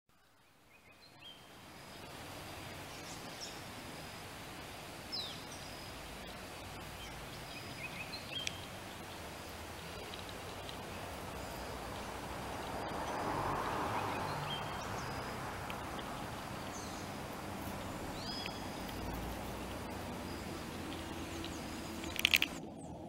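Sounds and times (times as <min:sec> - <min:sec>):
birds chirping: 0:00.1 - 0:23.0
steady background hiss: 0:00.1 - 0:23.0.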